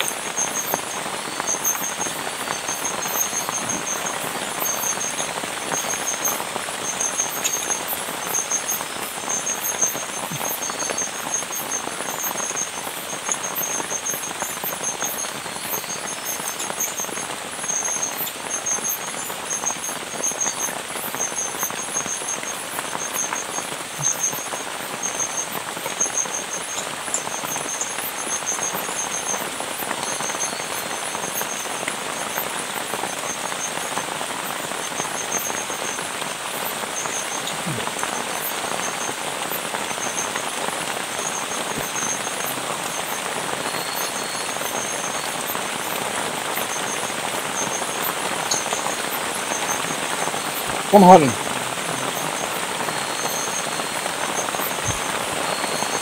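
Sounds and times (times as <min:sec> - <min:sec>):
heavy rain on a tarp: 0:00.0 - 0:56.0.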